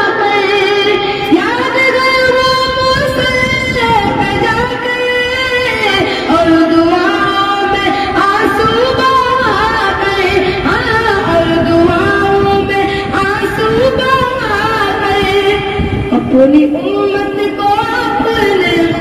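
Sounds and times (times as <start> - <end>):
boy singing: 0.0 - 19.0.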